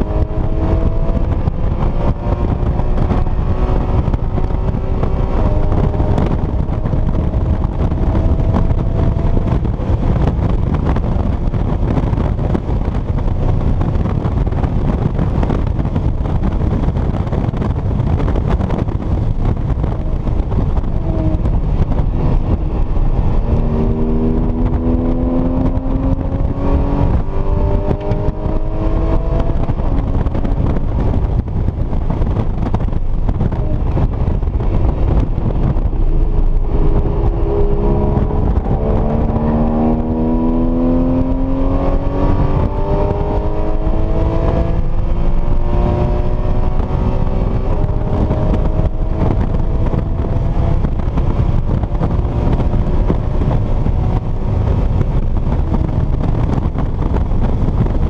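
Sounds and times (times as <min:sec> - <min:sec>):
car engine running hard: 0:00.0 - 0:58.0
road and tyre rumble: 0:00.0 - 0:58.0.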